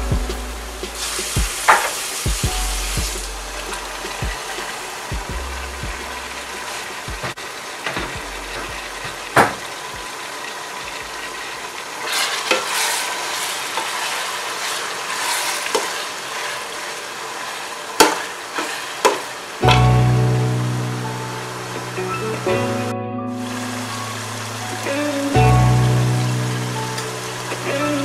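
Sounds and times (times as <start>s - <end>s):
onions and tomatoes sizzling in oil: 0.0s - 22.4s, 23.4s - 28.0s.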